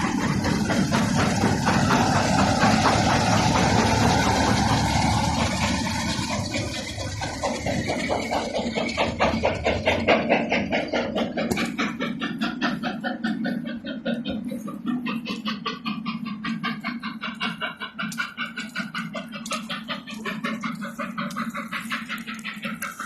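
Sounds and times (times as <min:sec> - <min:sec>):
locomotive rapid beat: 0:00.0 - 0:23.0
locomotive steady hum: 0:00.0 - 0:23.0.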